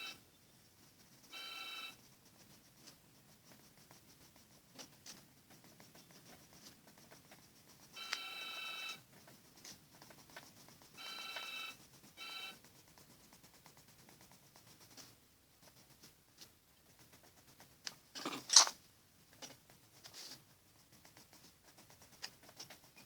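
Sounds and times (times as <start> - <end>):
faint scratching: 0.0 - 23.0.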